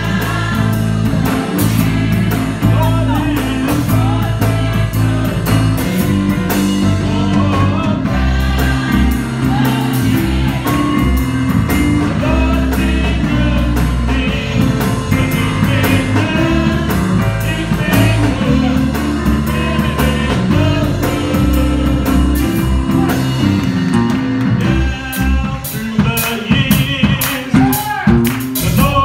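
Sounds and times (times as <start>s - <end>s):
choir singing: 0.0s - 23.6s, 24.6s - 26.1s
electric organ chords: 0.0s - 29.0s
steady beat: 0.0s - 29.0s.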